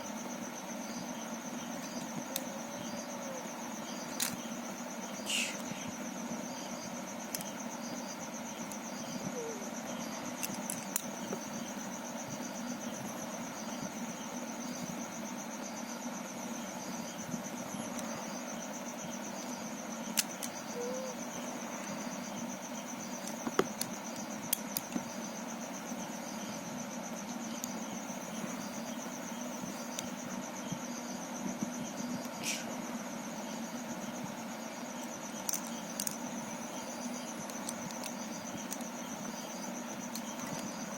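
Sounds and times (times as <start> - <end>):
cricket trilling: 0.0 - 40.9.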